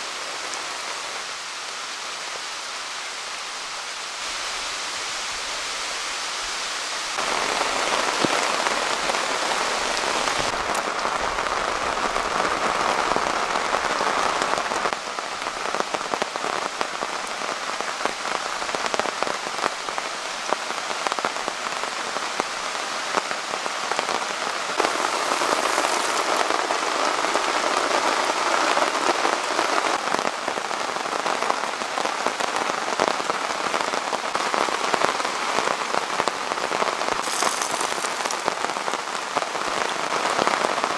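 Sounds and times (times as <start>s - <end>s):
heavy rain in woodland: 0.0s - 40.9s.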